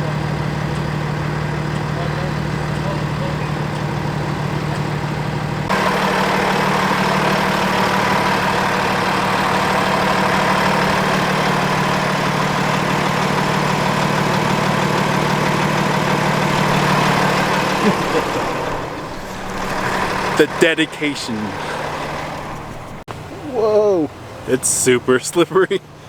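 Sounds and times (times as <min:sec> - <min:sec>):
truck engine droning: 0:00.0 - 0:26.0.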